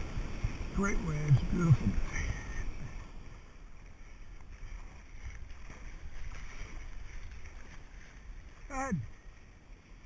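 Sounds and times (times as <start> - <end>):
low wind rumble on microphone: 0.0 - 10.0
water swishing around a paddle: 0.0 - 10.0.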